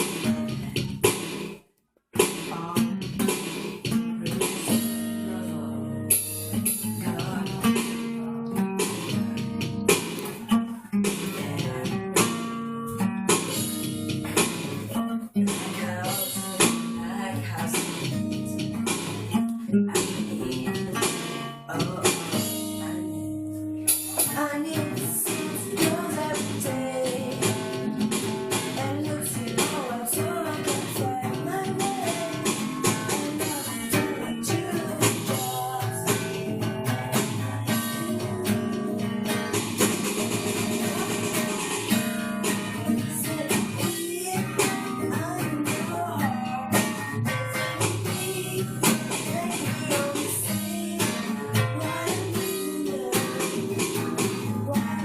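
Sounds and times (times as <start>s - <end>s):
guitar strumming chords: 0.0s - 55.0s.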